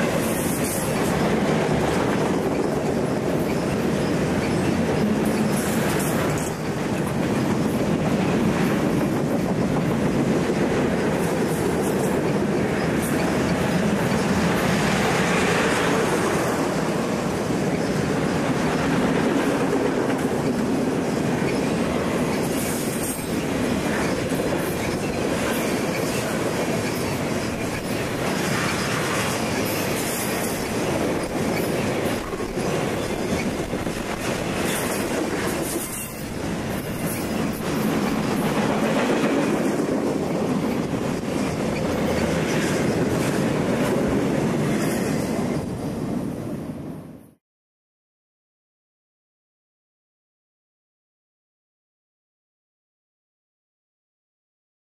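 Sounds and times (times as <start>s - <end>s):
steel wheels rumbling on rail: 0.0s - 47.1s.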